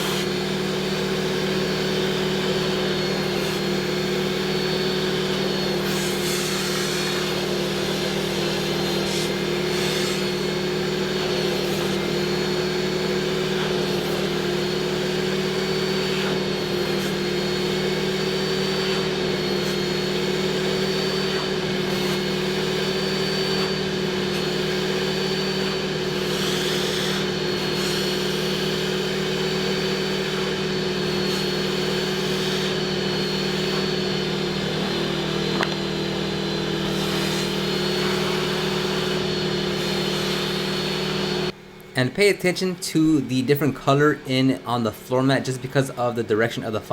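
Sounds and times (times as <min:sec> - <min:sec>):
vacuum motor whining: 0:00.0 - 0:46.9.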